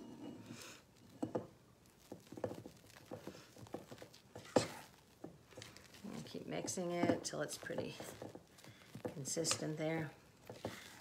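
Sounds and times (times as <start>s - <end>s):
spatula scraping a steel bowl: 0.0s - 1.4s, 2.1s - 11.0s.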